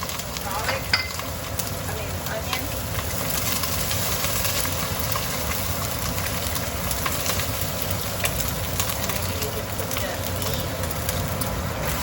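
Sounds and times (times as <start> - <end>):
kitchen exhaust fan hum: 0.0 - 12.0
onion sizzling in hot oil: 0.0 - 12.0.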